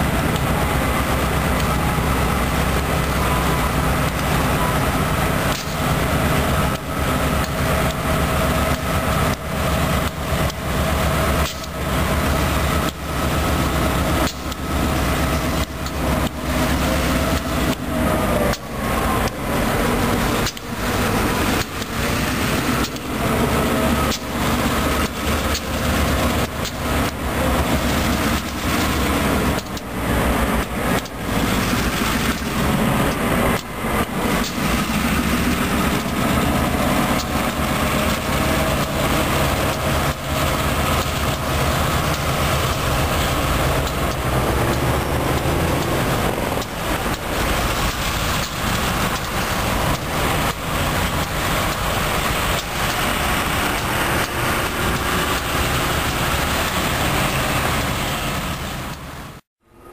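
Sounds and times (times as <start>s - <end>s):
train wheels clanking: 0.0s - 59.4s
diesel locomotives running: 0.0s - 59.9s.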